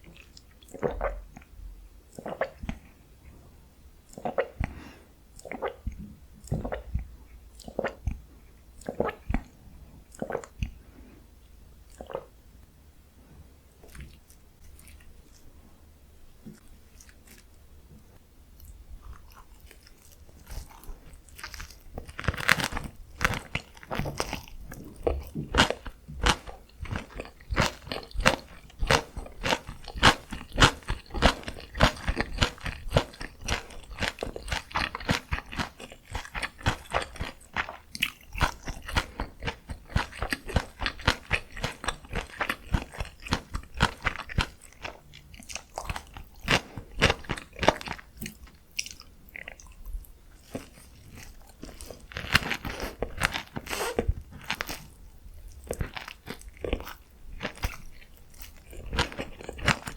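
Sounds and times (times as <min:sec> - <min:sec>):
crunchy chewing of food: 0:02.1 - 0:03.0, 0:04.1 - 0:10.9, 0:13.8 - 0:15.6, 0:16.4 - 0:17.6, 0:18.5 - 0:59.9.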